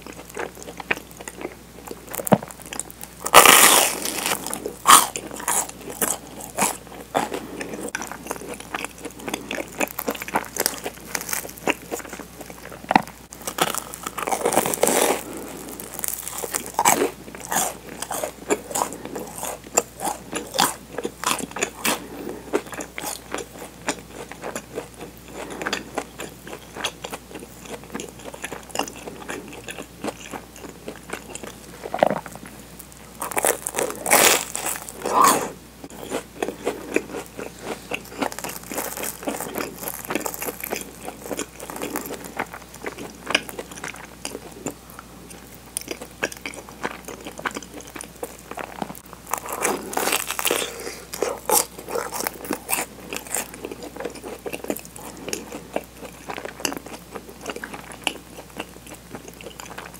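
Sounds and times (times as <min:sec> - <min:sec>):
biting crisp toasted bread: 0:00.0 - 0:59.9
crunchy chewing: 0:00.0 - 0:59.9.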